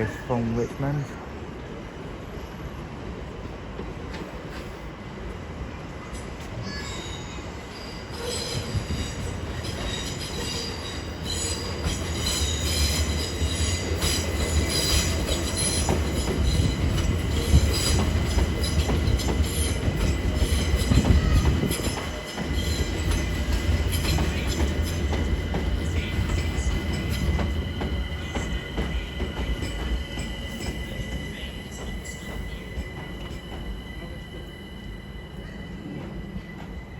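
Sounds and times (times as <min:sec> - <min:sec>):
electric train rumble: 0:00.0 - 0:36.9.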